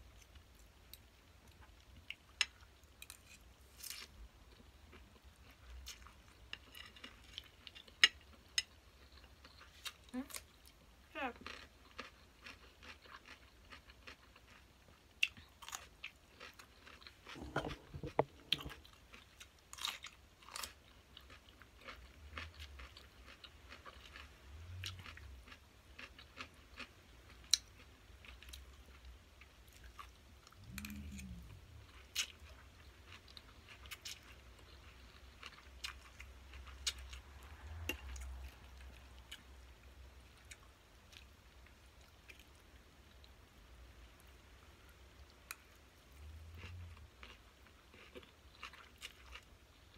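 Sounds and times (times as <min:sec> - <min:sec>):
person chewing crunchy food: 0:00.1 - 0:10.8, 0:11.4 - 0:39.6, 0:46.4 - 0:49.9.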